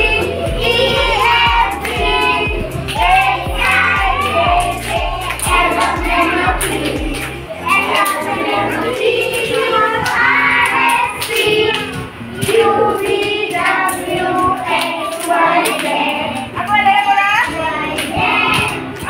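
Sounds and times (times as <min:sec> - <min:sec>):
children singing: 0:00.0 - 0:16.6, 0:17.5 - 0:19.0
children clapping: 0:00.0 - 0:16.8, 0:17.4 - 0:19.0.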